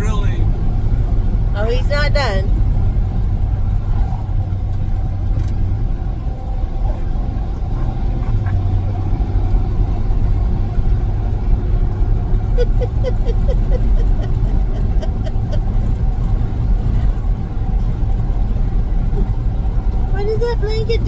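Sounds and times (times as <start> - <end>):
truck engine rumbling in cab: 0.0 - 21.0.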